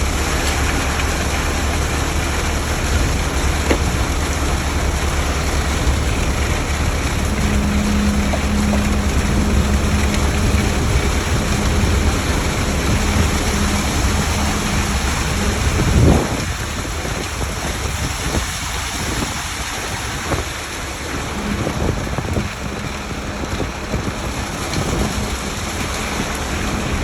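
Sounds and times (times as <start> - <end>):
constant rushing noise: 0.0 - 27.0
diesel engine running: 0.0 - 27.0.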